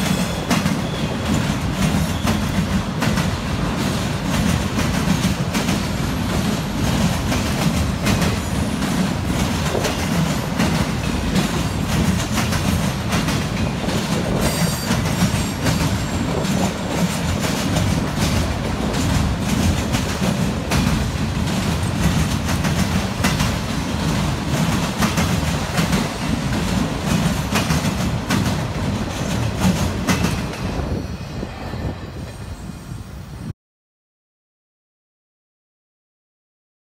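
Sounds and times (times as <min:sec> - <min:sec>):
train wheels clacking: 0:00.0 - 0:31.0
train rumble: 0:00.0 - 0:33.5.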